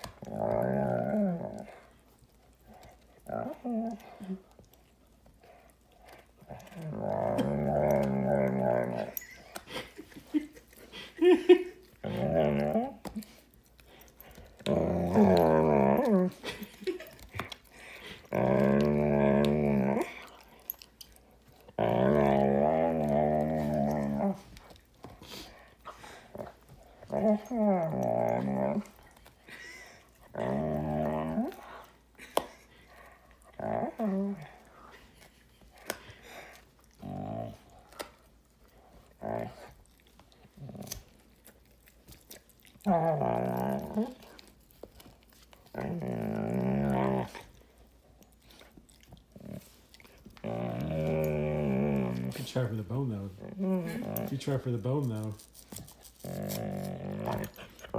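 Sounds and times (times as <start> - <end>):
dog growling: 0.0 - 2.0, 2.6 - 4.8, 5.4 - 20.9, 21.5 - 41.4, 42.3 - 44.5, 45.6 - 47.8, 48.5 - 57.9
dog chewing bone: 0.0 - 10.9, 11.8 - 57.9.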